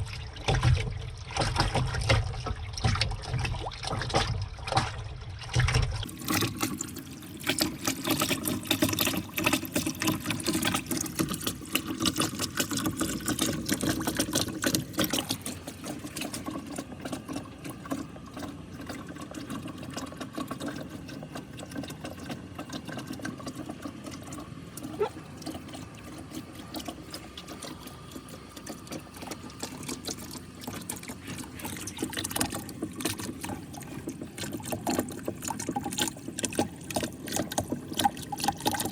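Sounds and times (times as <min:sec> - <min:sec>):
water running and trickling: 0:00.0 - 0:38.9.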